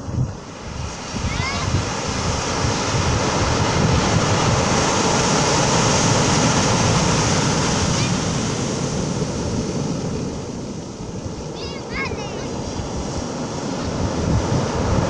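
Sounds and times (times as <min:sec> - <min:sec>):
surf washing on pebble beach: 0:00.4 - 0:15.0.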